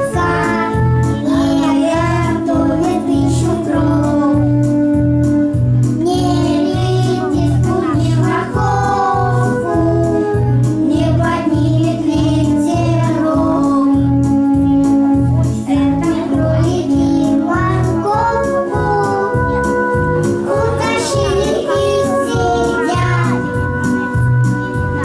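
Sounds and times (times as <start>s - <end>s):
song with sung melody: 0.0s - 25.0s.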